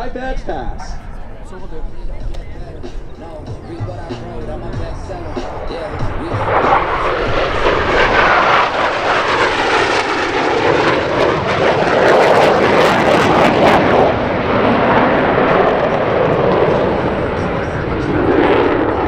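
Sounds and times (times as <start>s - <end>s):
propeller plane passing low: 0.0s - 19.0s.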